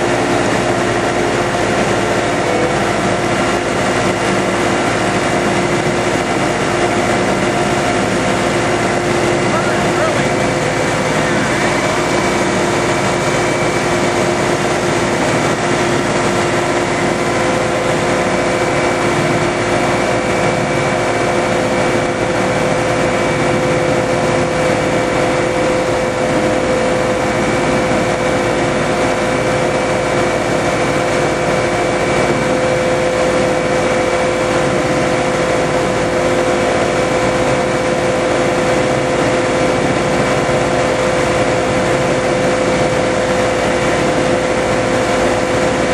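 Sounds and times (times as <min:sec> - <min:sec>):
propeller wash rushing: 0:00.0 - 0:45.9
thruster drive mechanical hum: 0:00.0 - 0:45.9.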